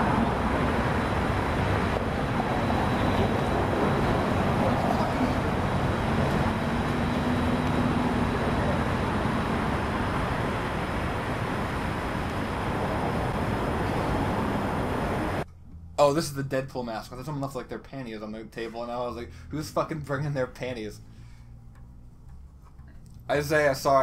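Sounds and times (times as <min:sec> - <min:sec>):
faint hum: 0:00.0 - 0:24.0
low outdoor rumble: 0:00.0 - 0:24.0.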